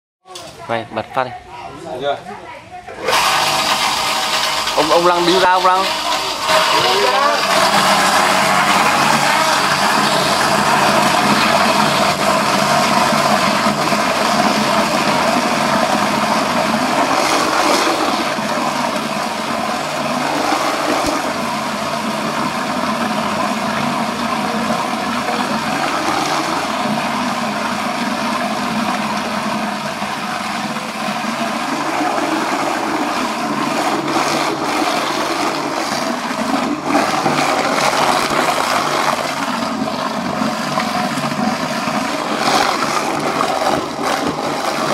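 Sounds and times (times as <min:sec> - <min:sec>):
bowl cutter grinding meat: 0:03.0 - 0:44.9.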